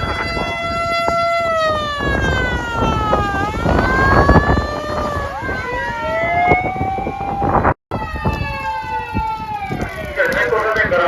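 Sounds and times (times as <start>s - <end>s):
engine and road noise: 0.0s - 11.0s
low-pitched motor siren wailing: 0.0s - 11.0s.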